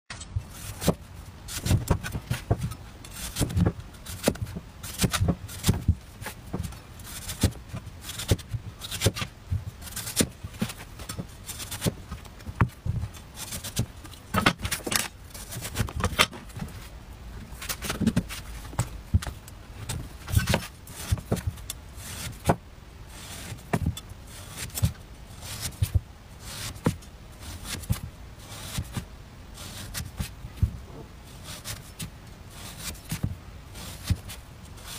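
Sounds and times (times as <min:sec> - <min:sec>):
cleaver cutting radish: 0:00.1 - 0:16.4, 0:17.6 - 0:30.6, 0:31.3 - 0:34.9.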